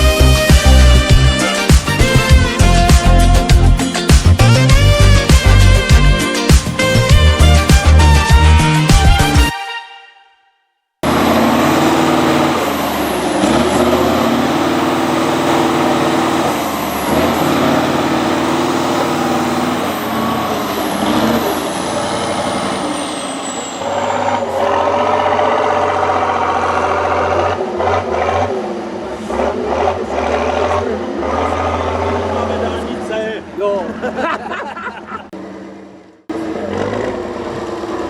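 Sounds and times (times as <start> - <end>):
diesel truck engine revving: 0.0 - 9.5, 11.0 - 34.5, 35.2 - 38.0.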